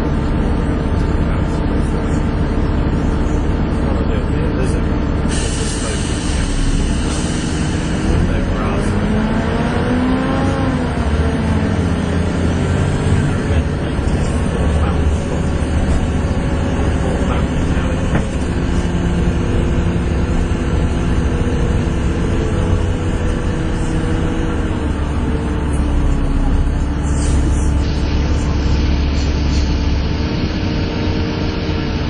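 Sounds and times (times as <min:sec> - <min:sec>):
bus diesel engine drone: 0:00.0 - 0:32.0.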